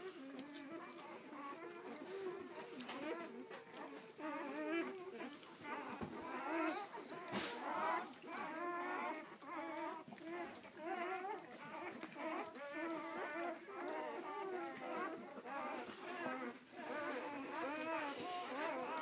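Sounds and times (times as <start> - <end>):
newborn puppies crying and squeaking: 0.0 - 19.0.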